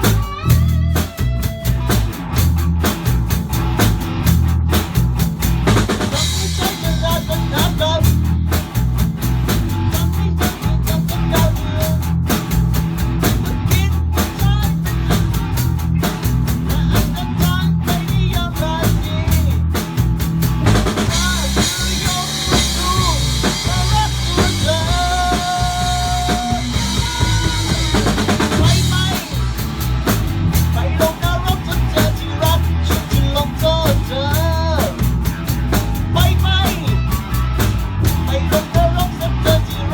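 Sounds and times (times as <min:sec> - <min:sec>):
drum kit beat: 0:00.0 - 0:39.9
live band playing: 0:00.0 - 0:39.9.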